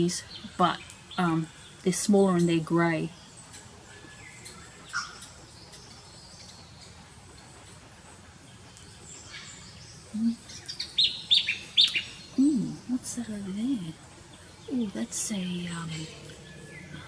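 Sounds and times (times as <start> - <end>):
birds chirping: 0.0 - 17.0
faint outdoor background noise: 0.0 - 17.0.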